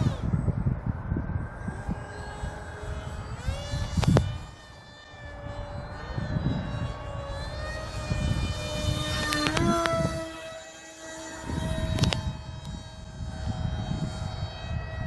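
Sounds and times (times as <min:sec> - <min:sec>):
model plane motor whining: 0:00.0 - 0:15.0
wind buffeting microphone: 0:00.0 - 0:15.0.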